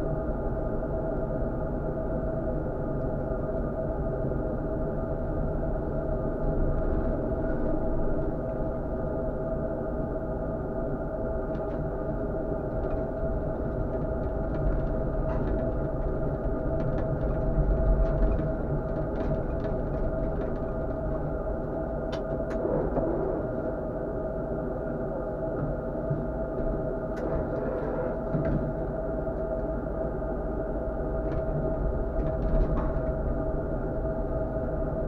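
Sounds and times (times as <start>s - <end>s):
tram rumbling on rails: 0.0s - 35.0s.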